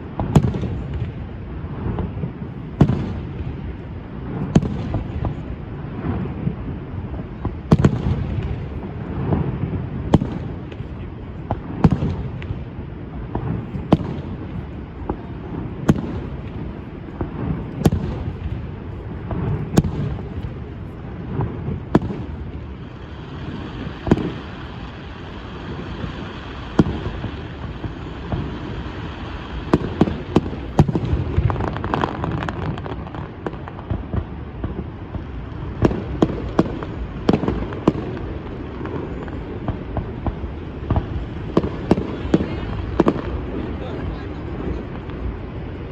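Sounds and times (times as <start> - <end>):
crackling fireworks reports: 0.0 - 45.9
fireworks bangs and booms: 0.0 - 45.9.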